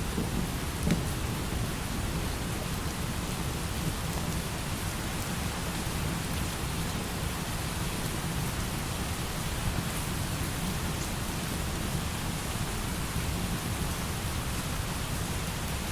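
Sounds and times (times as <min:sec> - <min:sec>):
light rain: 0:00.0 - 0:15.9.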